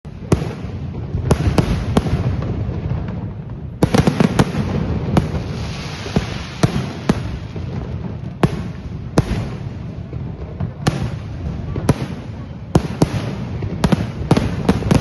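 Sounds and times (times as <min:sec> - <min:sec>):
fireworks bangs: 0:00.1 - 0:15.0.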